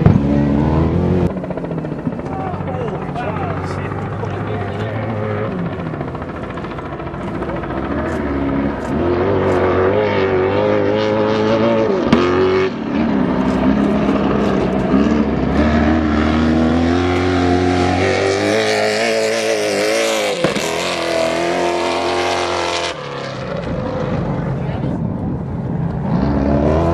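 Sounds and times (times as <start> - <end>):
race truck engines revving: 0.0 - 26.9.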